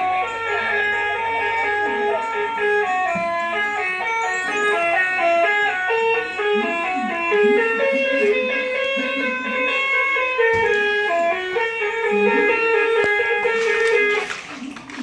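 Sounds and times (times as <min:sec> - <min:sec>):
melody of held notes: 0:00.0 - 0:14.4.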